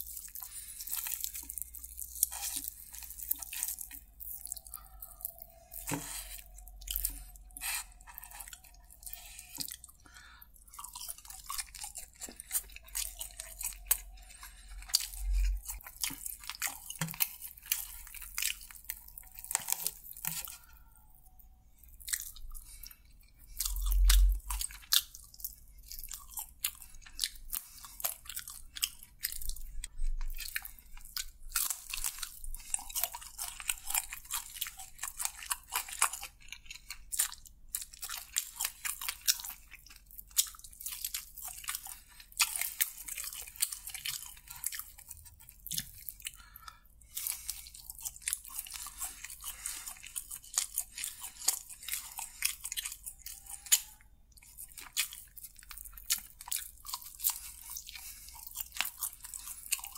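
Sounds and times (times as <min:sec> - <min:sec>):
chewing crispy fried chicken: 0:00.0 - 0:59.9.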